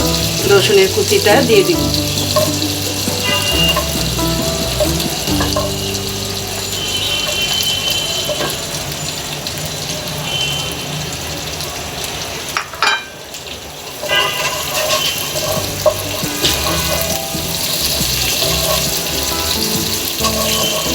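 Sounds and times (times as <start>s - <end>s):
garlic sizzling in a pan: 0.0s - 20.9s.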